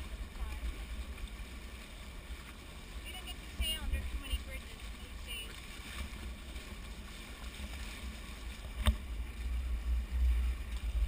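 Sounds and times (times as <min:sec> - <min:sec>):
water rushing past boat hulls: 0:00.0 - 0:11.0
wind rumbling on microphone: 0:00.0 - 0:11.0.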